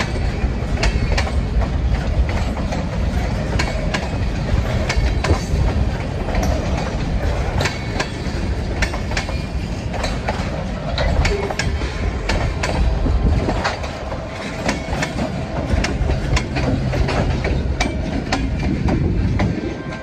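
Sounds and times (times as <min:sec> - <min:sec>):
freight train rumbling past: 0:00.0 - 0:20.0
wheels clacking over rail joints: 0:00.0 - 0:20.0.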